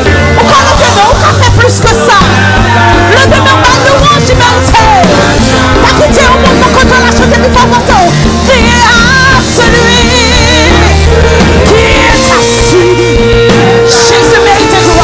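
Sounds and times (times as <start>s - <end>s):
band with bass notes: 0.0s - 15.0s
woman singing: 0.0s - 15.0s.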